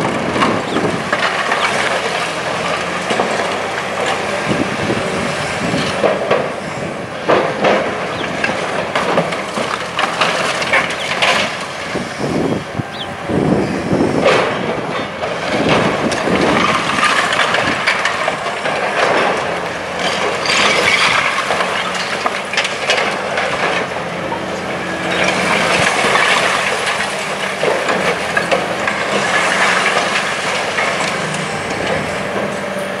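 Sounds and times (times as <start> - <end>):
debris falling: 0.0 - 5.0, 7.2 - 12.0, 14.2 - 32.6
concrete cracking and crunching: 0.0 - 12.6, 14.1 - 32.7
diesel engine hum: 0.0 - 33.0.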